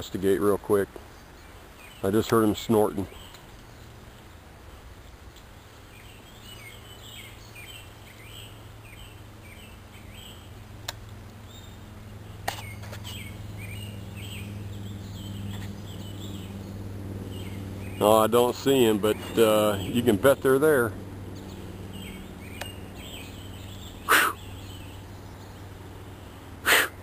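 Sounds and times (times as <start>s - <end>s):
birds chirping: 0.0s - 27.0s
low steady hum: 0.0s - 27.0s.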